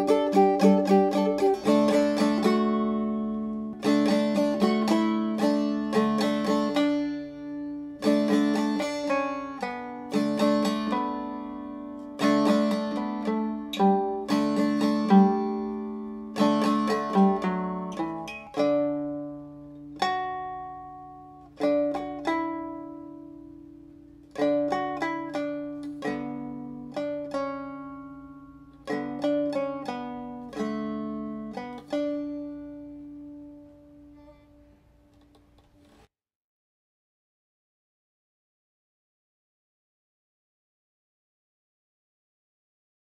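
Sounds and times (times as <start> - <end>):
plucked string instrument melody: 0.0 - 36.1.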